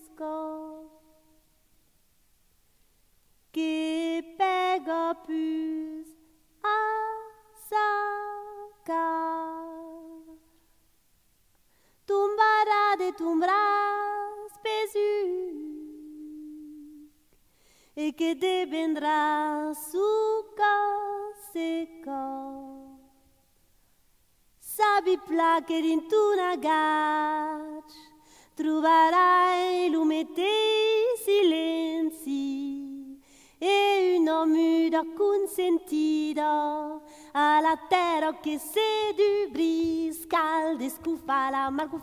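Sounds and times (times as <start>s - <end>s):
woman singing unaccompanied: 0.0s - 1.5s, 3.5s - 10.6s, 12.0s - 17.2s, 18.0s - 23.2s, 24.6s - 42.0s.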